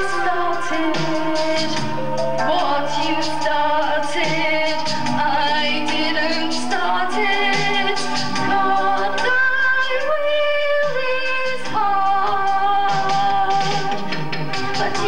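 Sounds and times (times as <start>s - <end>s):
woman singing into a microphone: 0.0s - 15.0s.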